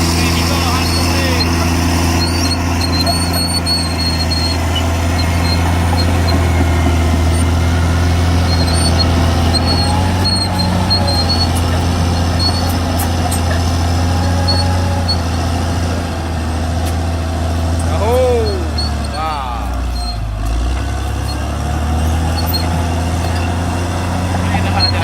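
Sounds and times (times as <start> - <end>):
bulldozer diesel engine running: 0.0 - 25.0
short high squeaks: 0.1 - 15.6, 17.8 - 25.0.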